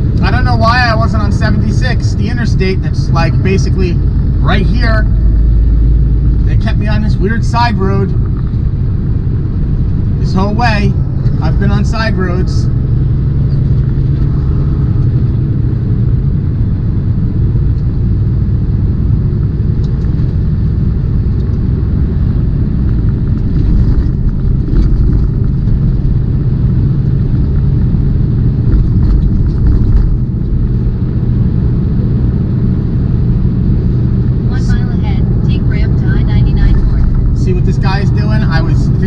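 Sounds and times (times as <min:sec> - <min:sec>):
truck diesel engine rumble: 0:00.0 - 0:39.0.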